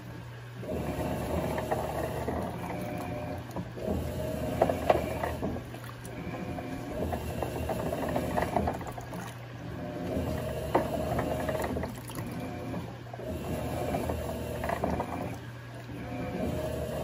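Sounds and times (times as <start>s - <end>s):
washing machine agitating clothes: 0.0s - 17.0s.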